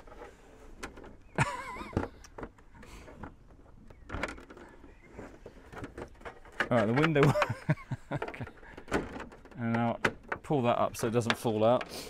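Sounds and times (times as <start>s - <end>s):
plastic panel knocks and rubbing: 0.0s - 12.0s.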